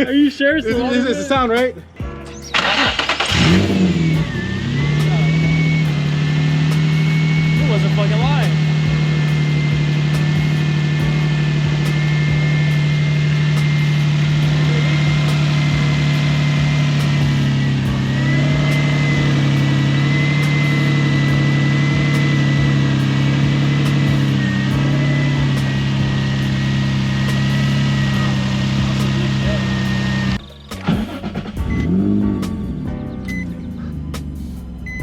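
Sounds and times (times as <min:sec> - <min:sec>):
car engine idling: 0:00.0 - 0:35.0
high whine: 0:02.1 - 0:33.7.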